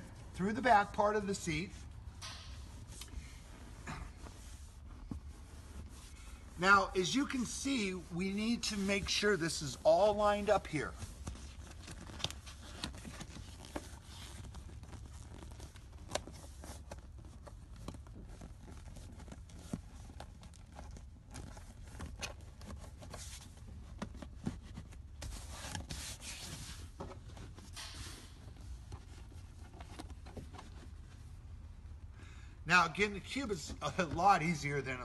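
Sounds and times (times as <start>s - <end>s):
vinyl seat cover rustling: 2.6s - 32.0s.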